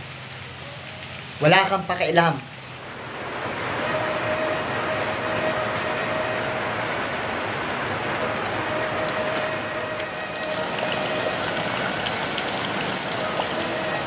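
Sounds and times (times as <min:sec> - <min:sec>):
heavy rain on trees and roof: 0:00.0 - 0:14.0.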